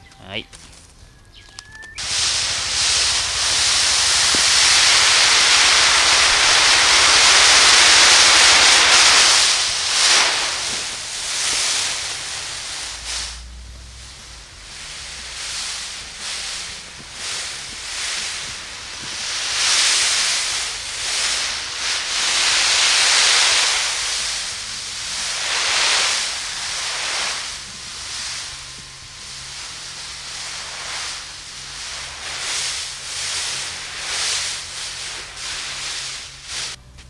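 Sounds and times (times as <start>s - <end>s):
water spraying from a hose: 2.0s - 36.8s.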